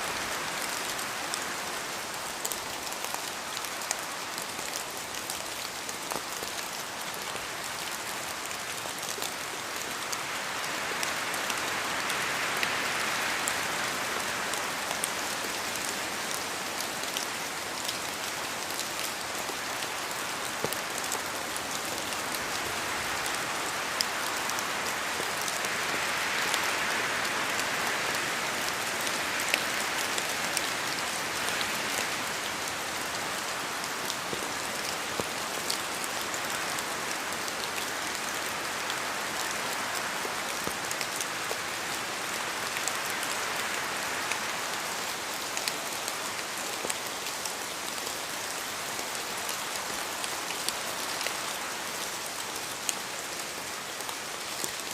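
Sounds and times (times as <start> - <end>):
steady rain falling: 0.0 - 54.9
raindrops ticking on a surface: 0.2 - 54.9.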